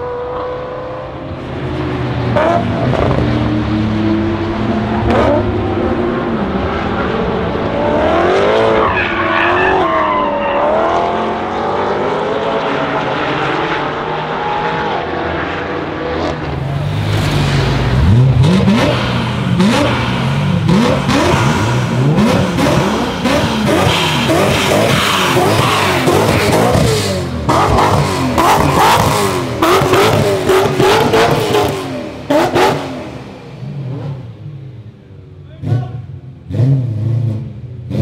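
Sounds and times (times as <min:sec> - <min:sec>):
loud car engine revving: 0:00.0 - 0:34.9, 0:35.5 - 0:38.0.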